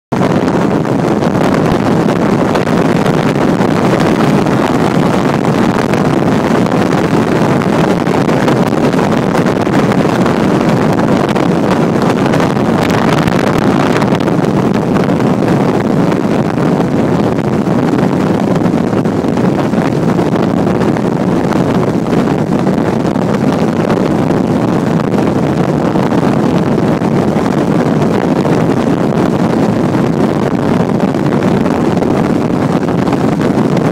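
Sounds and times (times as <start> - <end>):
motorboat engine and water rush: 0.1 - 33.9
wind buffeting microphone: 0.1 - 33.9.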